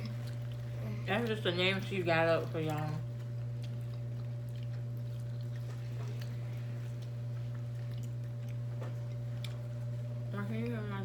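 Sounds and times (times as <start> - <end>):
people chewing: 0.0 - 11.0
steady low hum: 0.0 - 11.0.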